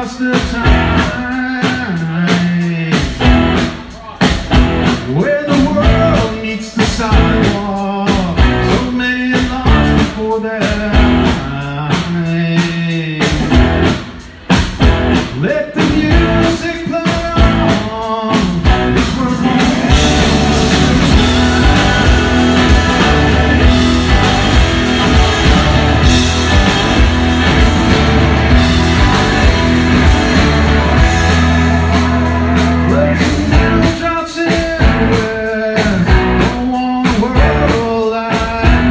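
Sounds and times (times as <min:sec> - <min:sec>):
man singing: 0:00.0 - 0:03.3, 0:03.9 - 0:13.6, 0:15.3 - 0:25.8, 0:30.9 - 0:38.9
rock band playing live: 0:00.0 - 0:38.9.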